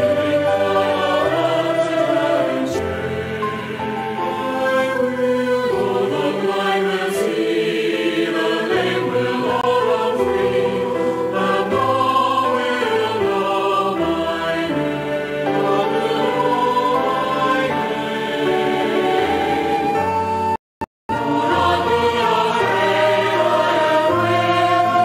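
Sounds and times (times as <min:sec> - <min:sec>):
choir singing held chords: 0:00.0 - 0:20.5, 0:21.1 - 0:25.0.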